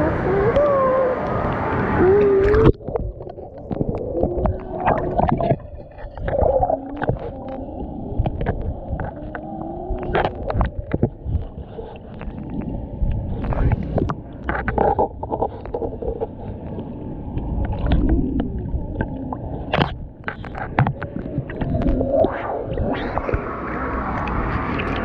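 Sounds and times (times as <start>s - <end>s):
underwater flowing water: 0.0s - 25.0s.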